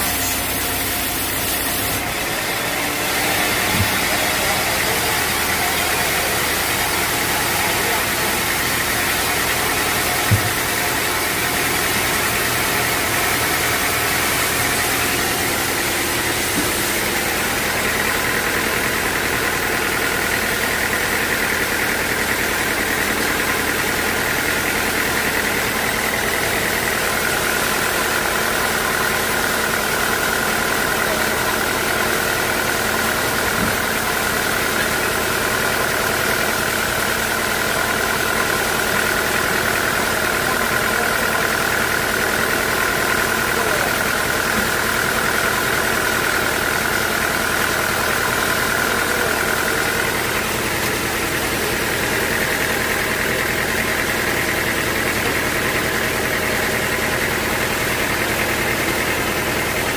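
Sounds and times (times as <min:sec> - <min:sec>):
sawmill machinery whine: 0:00.0 - 0:59.9.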